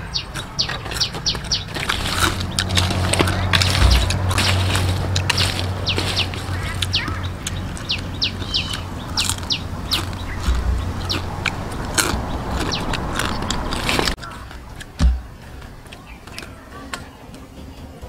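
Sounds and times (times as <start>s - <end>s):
small bird chirping: 0.0s - 14.5s
steady low hum: 0.0s - 16.8s.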